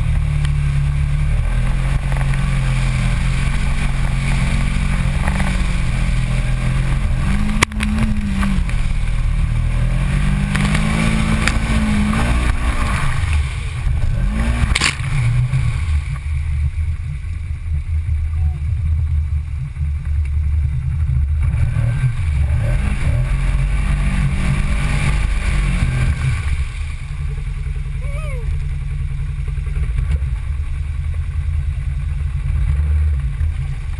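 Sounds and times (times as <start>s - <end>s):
engine revving: 0.0s - 33.9s.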